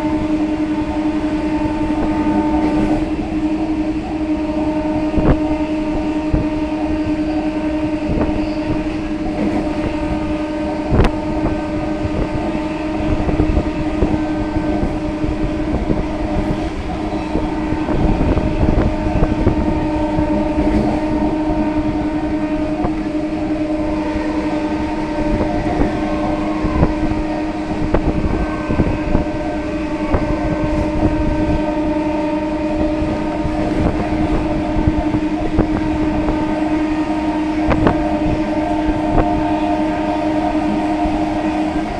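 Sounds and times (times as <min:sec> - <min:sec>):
train motor hum: 0:00.0 - 0:41.9.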